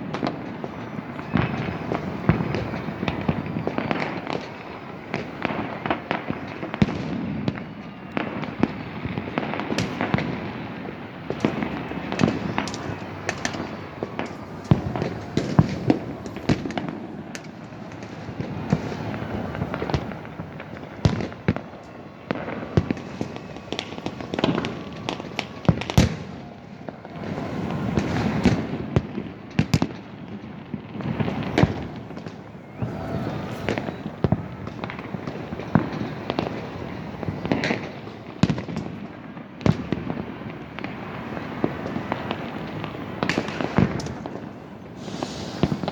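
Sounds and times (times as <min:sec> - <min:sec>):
fireworks bangs and pops: 0:00.0 - 0:45.9
rumble of distant explosions: 0:00.0 - 0:45.9.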